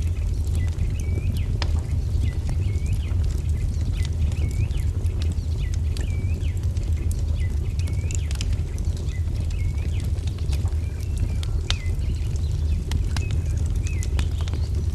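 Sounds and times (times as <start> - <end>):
wood fire crackling and popping: 0.0 - 14.9.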